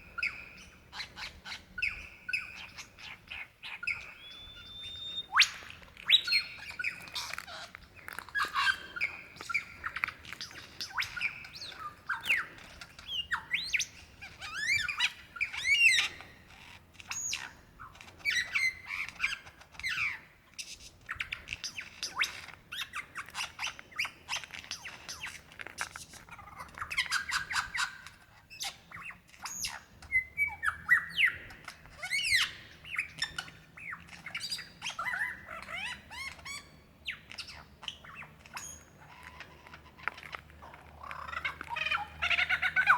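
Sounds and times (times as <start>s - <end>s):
lyrebird singing: 0.0s - 42.9s.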